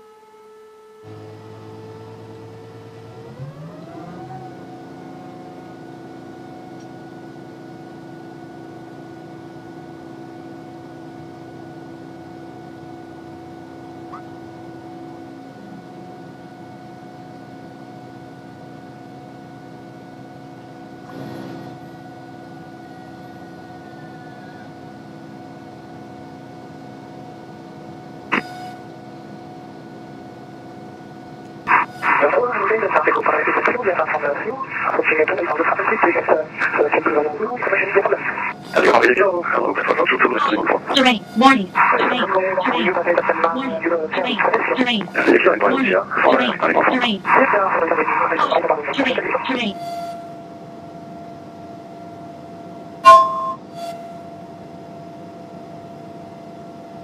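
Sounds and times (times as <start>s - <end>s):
airplane engine and propeller drone: 0.0s - 53.1s, 54.0s - 57.0s.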